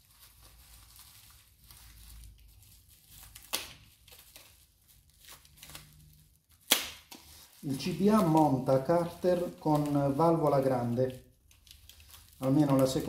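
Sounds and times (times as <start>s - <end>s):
wrapping rustling: 0.0s - 13.0s.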